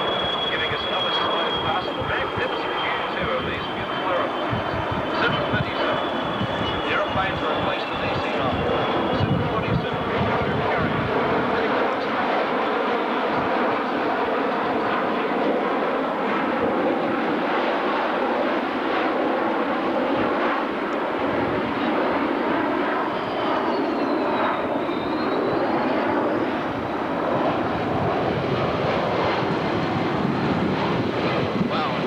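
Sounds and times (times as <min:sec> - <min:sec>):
high jet engine whine: 0:00.0 - 0:32.0
jet airliners flying low: 0:00.0 - 0:32.0.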